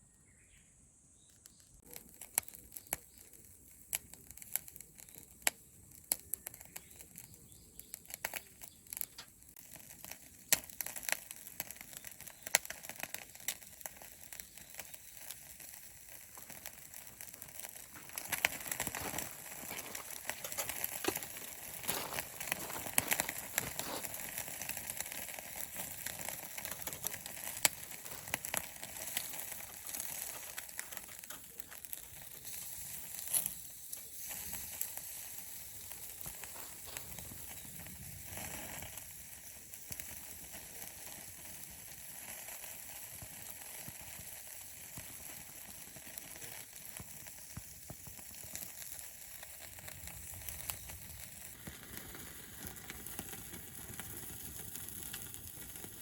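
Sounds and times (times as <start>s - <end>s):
small fire crackling: 1.1s - 56.0s
steady hiss: 1.3s - 56.0s.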